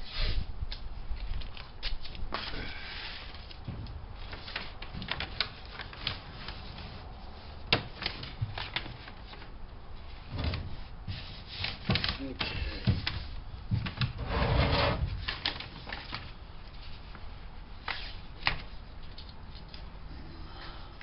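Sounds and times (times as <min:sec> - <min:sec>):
tape crackling and rustling: 0:00.7 - 0:14.2, 0:15.0 - 0:19.9.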